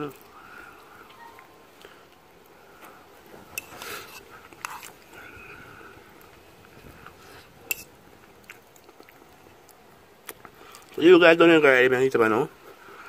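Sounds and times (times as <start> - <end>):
soft chewing: 0.1 - 11.0.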